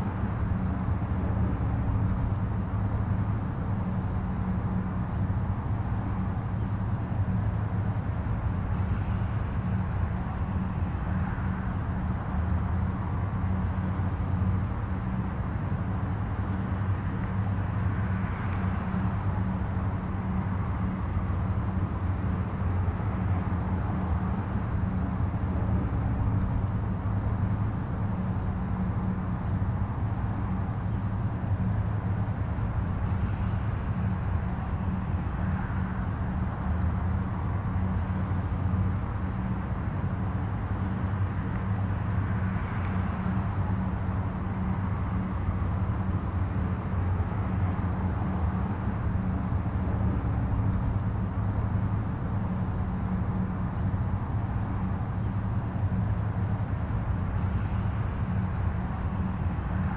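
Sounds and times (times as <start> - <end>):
distant highway traffic rumble: 0.0 - 59.9.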